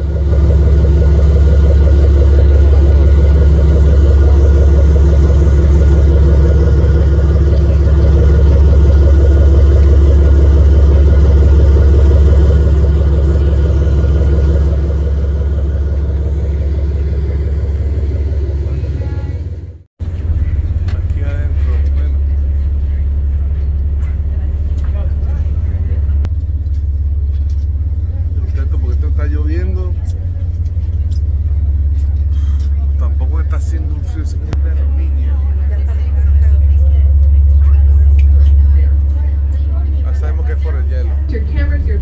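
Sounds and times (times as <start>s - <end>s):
boat engine idling: 0.0s - 42.0s.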